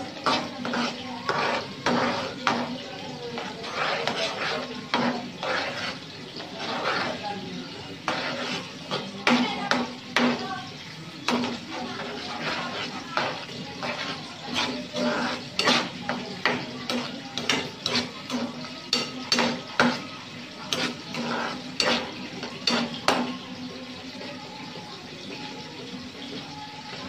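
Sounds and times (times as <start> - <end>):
fish frying in oil: 0.0 - 27.0.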